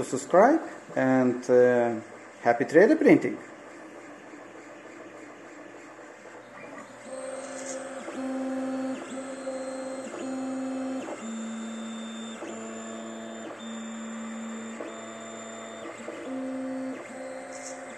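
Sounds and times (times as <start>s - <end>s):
printer stepper motors whining: 0.0s - 17.9s.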